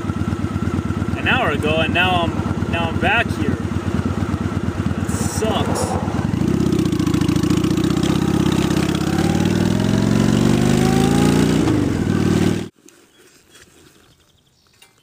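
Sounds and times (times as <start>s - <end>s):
motorcycle engine accelerating: 0.0s - 12.7s.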